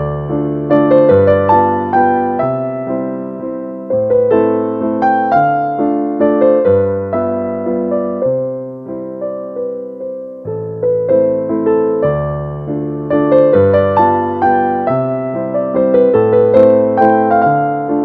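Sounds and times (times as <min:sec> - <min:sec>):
gentle solo piano: 0:00.0 - 0:18.0.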